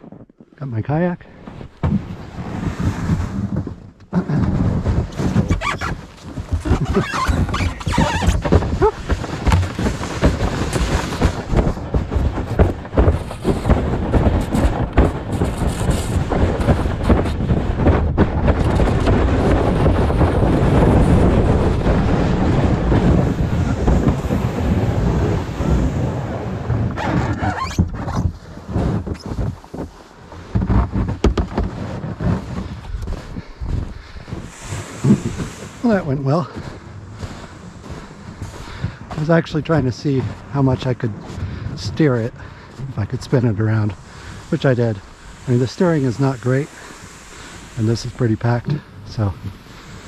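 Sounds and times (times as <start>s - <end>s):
kayak scraping down snow: 0.0s - 50.0s
kayak bumps and knocks: 1.4s - 50.0s.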